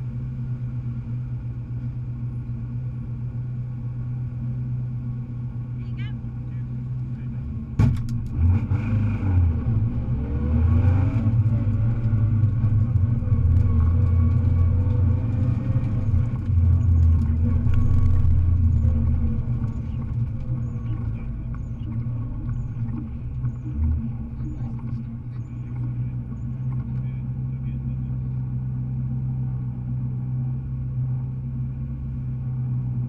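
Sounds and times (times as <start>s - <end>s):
rally car engine from cabin: 0.0s - 33.0s.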